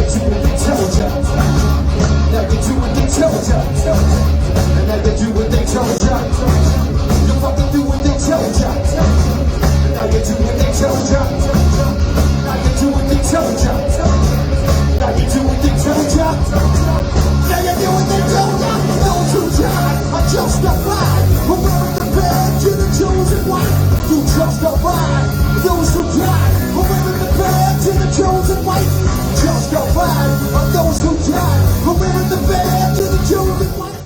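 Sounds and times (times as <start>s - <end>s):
bass guitar: 0.0s - 34.0s
distorted electric guitar riff: 0.0s - 34.0s
drums: 0.0s - 34.0s
shouted vocals: 0.0s - 34.0s.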